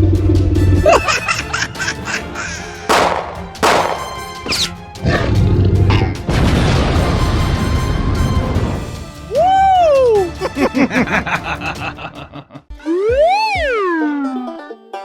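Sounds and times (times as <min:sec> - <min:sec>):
background music: 0:00.1 - 0:15.0.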